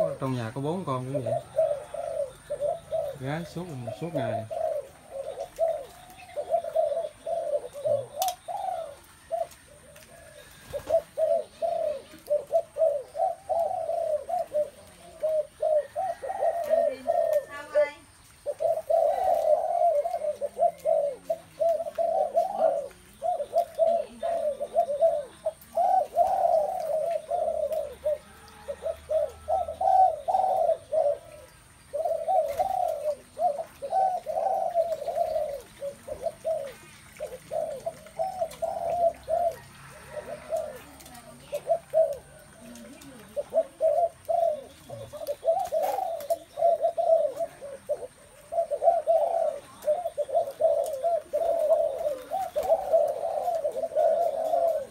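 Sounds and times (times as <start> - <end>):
doves cooing: 0.0 - 54.9.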